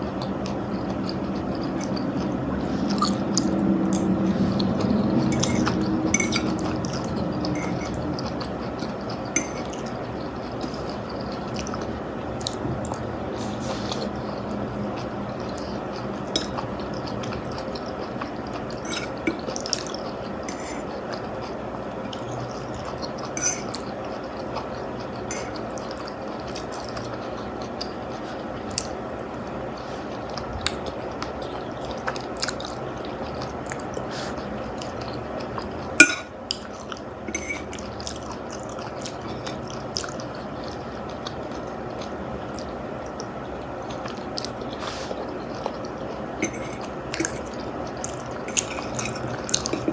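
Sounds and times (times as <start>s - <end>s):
steady background noise: 0.0s - 49.9s
wet chewing and mouth sounds: 0.1s - 49.9s.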